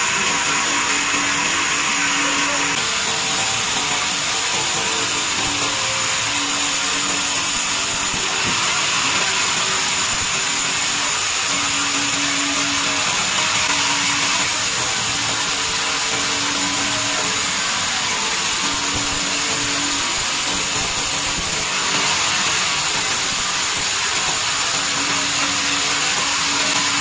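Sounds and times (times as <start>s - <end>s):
band saw cutting wood: 0.0s - 27.0s.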